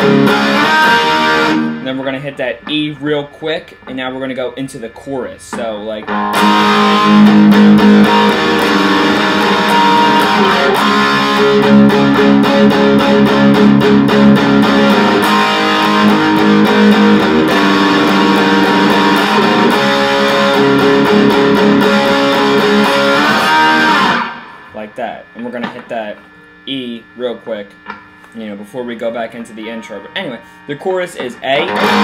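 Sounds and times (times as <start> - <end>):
electric guitar strumming chords: 0.0 - 32.0.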